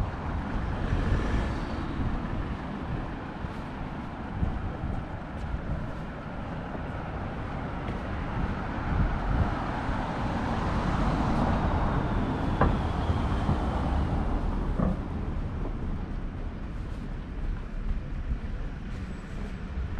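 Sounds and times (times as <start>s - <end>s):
road vehicle passing: 0.0s - 19.9s.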